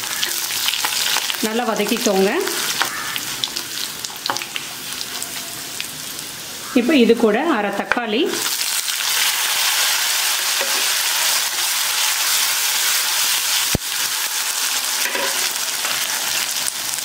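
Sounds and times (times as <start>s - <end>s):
tomato sizzling in oil: 0.0s - 17.0s.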